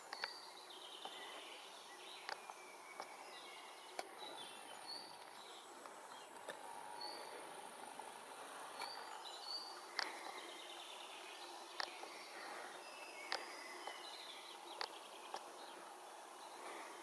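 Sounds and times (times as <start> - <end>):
distant birds calling: 0.0 - 17.0
faint steady hiss: 0.0 - 17.0.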